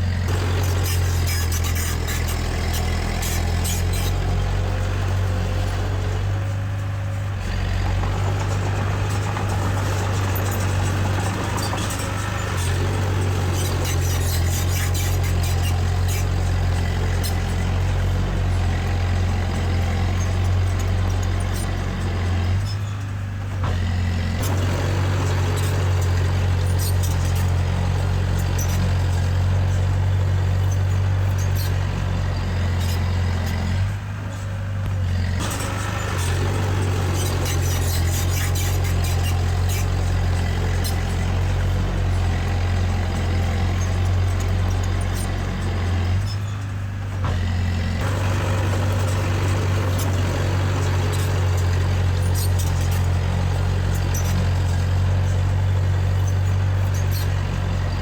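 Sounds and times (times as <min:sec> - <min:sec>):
heavy machinery diesel engine: 0:00.0 - 0:58.0
clanks and rattles: 0:00.1 - 0:58.0.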